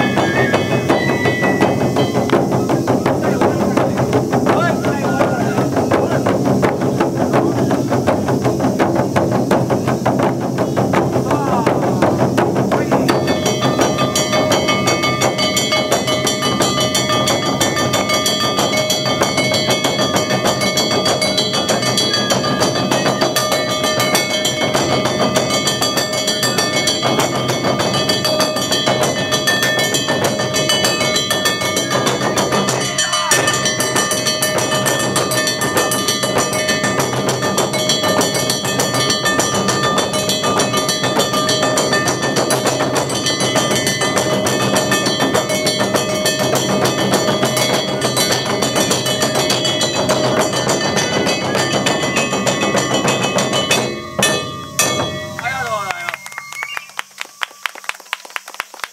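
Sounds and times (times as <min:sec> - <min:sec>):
metal gong ringing: 0:00.0 - 0:06.4, 0:12.6 - 0:56.6
taiko drums beaten: 0:00.0 - 0:56.7.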